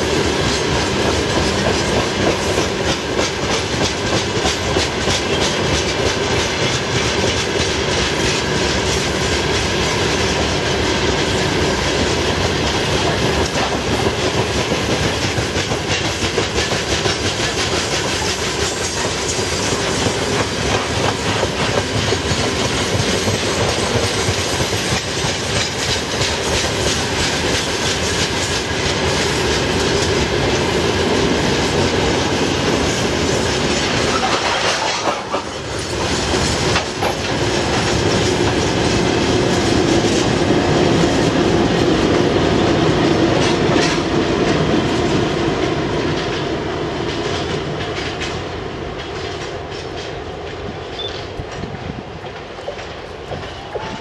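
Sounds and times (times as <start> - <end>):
wheels clattering over rail joints: 0.0 - 42.5, 45.6 - 54.0.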